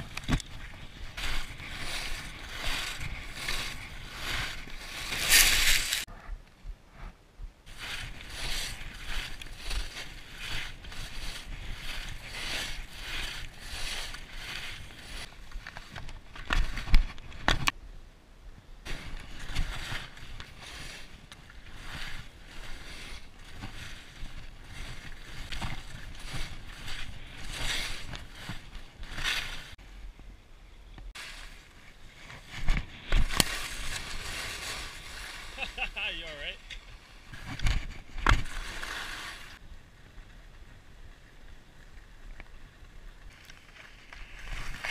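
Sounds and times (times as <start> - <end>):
skis scraping on snow: 0.0 - 6.1, 7.7 - 16.8, 18.9 - 29.8, 31.2 - 39.6, 42.8 - 44.9.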